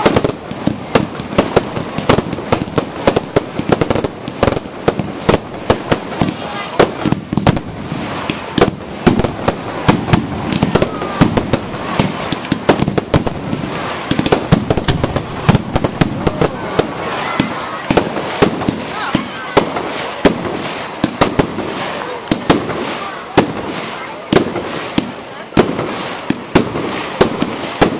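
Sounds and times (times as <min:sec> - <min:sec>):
crowd murmuring: 0:00.0 - 0:27.9
fireworks bangs and crackles: 0:00.0 - 0:27.9.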